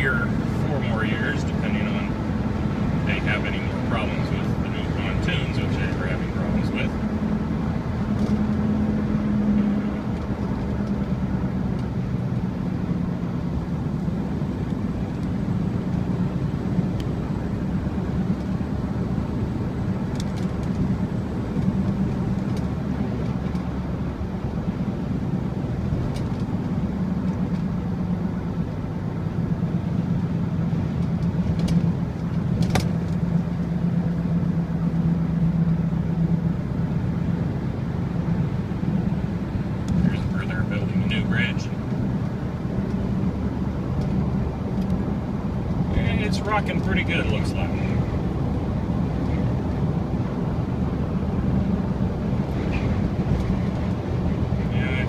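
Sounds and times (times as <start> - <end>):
car engine and tyre drone: 0.0 - 55.0.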